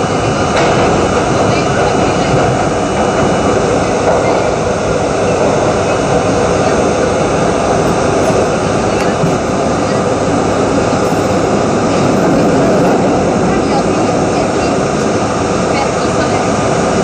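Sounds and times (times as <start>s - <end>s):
subway train wheels on rails: 0.0s - 17.0s.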